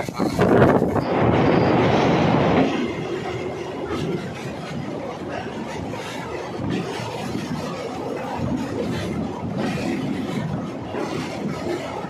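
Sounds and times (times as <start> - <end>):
train rumbling inside coach: 0.0 - 12.0.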